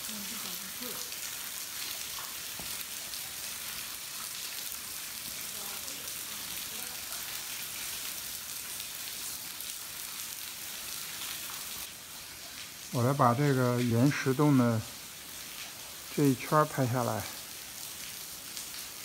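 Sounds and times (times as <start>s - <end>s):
water dripping and splashing on rock: 0.0s - 19.0s.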